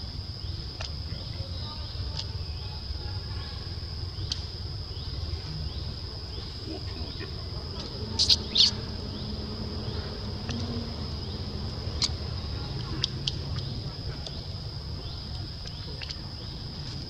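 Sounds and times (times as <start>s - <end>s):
forest insects droning: 0.0s - 17.0s
low rumble: 1.8s - 17.0s.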